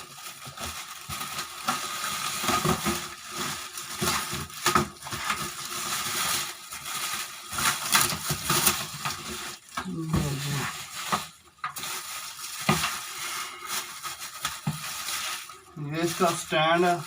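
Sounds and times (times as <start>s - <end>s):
plastic and cardboard crinkling: 0.0s - 17.0s.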